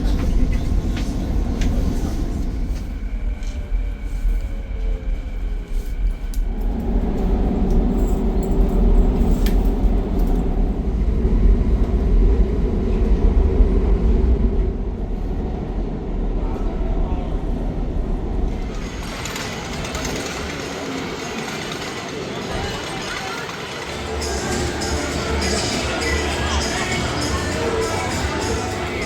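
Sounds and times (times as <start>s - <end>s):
roller coaster rumbling on track: 0.0s - 29.0s.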